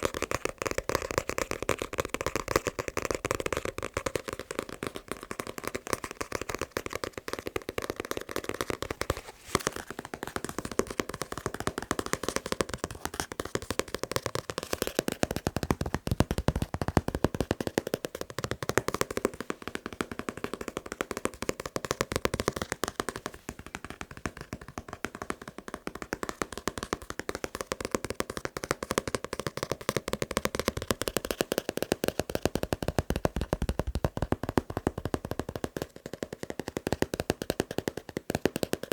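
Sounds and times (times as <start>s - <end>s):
fast tapping on a book: 0.0s - 38.9s.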